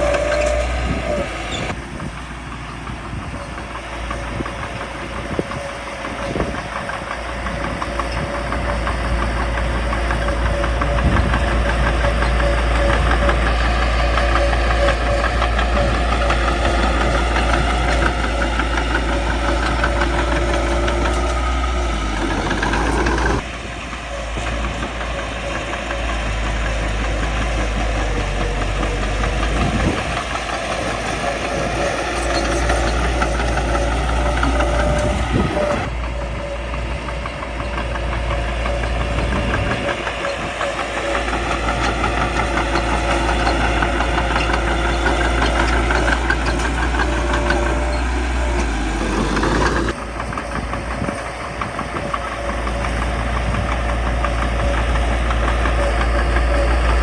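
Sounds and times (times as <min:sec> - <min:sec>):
bulldozer diesel engine knocking: 0:00.0 - 0:57.0.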